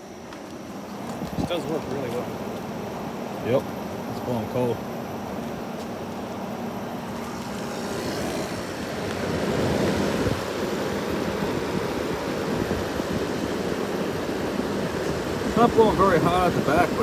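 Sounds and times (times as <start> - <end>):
air conditioner fan rushing: 0.0 - 17.0.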